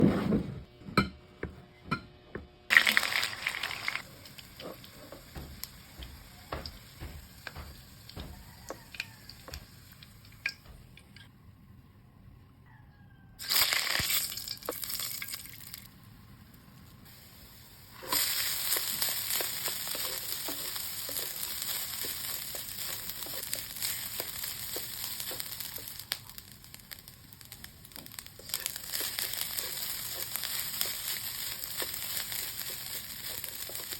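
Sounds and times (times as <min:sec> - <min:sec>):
food sizzling in hot oil: 0:02.7 - 0:10.8, 0:13.4 - 0:16.0, 0:17.0 - 0:33.9.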